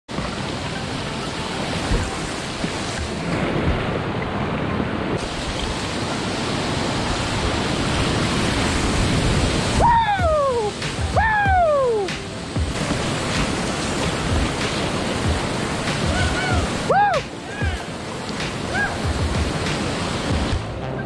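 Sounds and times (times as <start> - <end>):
whitewater rushing: 0.1 - 21.0.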